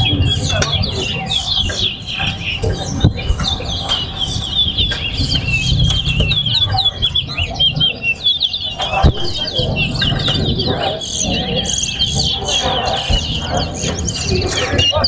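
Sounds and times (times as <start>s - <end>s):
finch singing fast chirps: 0.0s - 15.0s.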